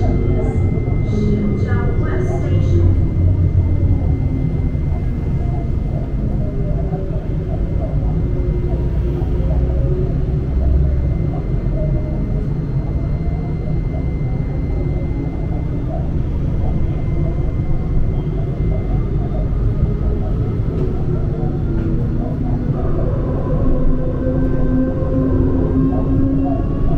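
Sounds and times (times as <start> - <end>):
faint rising whine: 0.0 - 26.9
tram rumble: 0.0 - 26.9.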